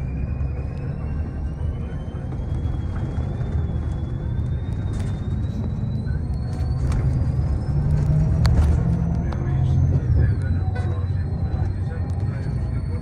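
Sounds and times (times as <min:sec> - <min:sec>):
thin whine rising in pitch: 0:00.0 - 0:13.0
vehicle engine low rumble: 0:00.0 - 0:13.0.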